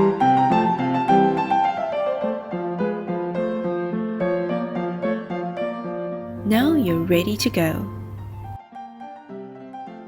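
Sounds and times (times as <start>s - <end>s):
piano music: 0.0s - 8.6s.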